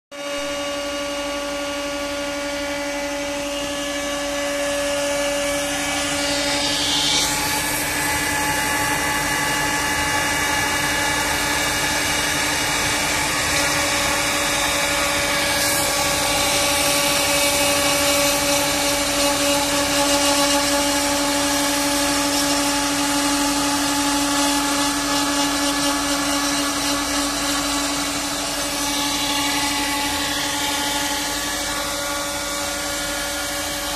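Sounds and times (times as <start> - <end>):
router spindle milling wood: 0.2 - 33.9.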